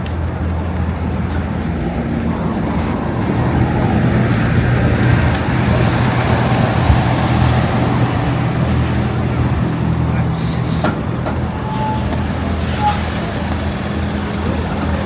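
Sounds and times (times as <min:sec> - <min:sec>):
road traffic noise: 0:00.0 - 0:15.0
vehicle engine humming: 0:00.0 - 0:15.0.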